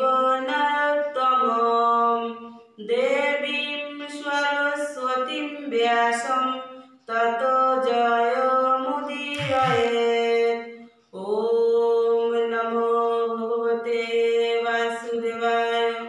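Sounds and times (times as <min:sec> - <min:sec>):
woman chanting verses: 0:00.0 - 0:16.0.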